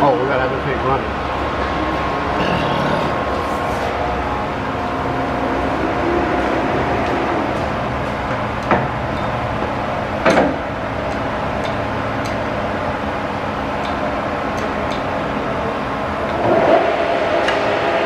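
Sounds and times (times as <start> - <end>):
lathe humming and whining: 0.0 - 18.0.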